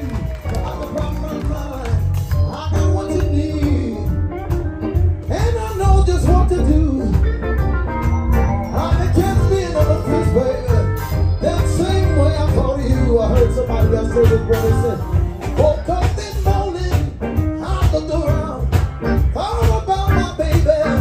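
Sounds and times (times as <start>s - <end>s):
man singing into microphone: 0.0s - 4.2s, 5.2s - 7.2s, 8.8s - 21.0s
electric guitar: 0.0s - 21.0s
heavy bass: 0.0s - 21.0s.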